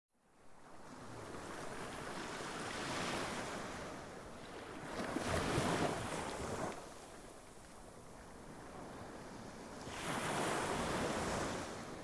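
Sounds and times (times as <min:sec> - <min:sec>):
sea waves washing onto beach: 0:01.0 - 0:12.0.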